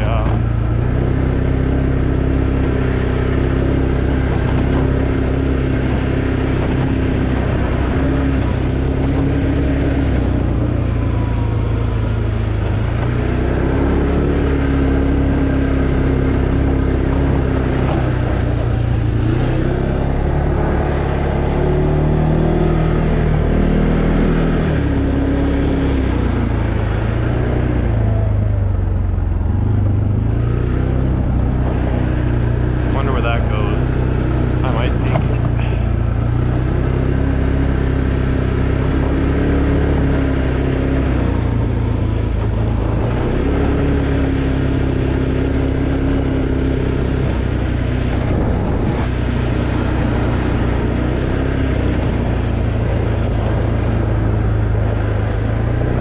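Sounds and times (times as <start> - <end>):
atv engine running: 0.0 - 56.0
rush of ride noise: 0.0 - 56.0.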